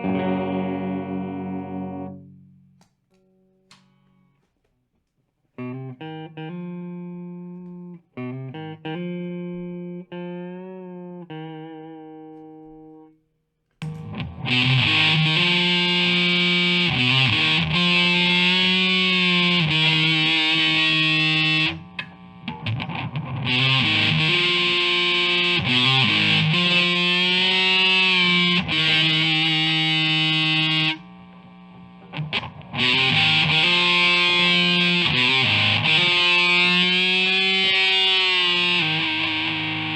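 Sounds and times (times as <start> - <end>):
distorted electric guitar riffing: 0.0 - 2.8, 5.6 - 13.2, 13.8 - 39.9
electric guitar chords ringing: 0.0 - 4.4, 5.6 - 13.2, 13.8 - 39.9.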